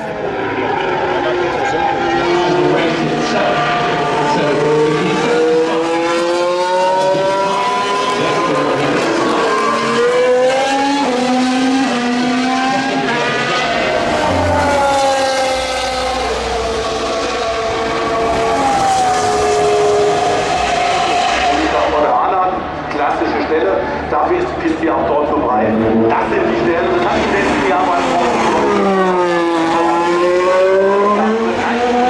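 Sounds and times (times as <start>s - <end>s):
racing car engines passing: 0.0s - 32.0s.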